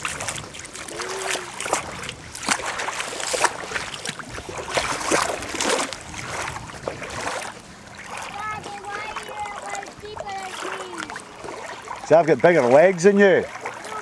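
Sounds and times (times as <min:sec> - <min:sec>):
seawater splashing at shoreline: 0:00.0 - 0:14.0.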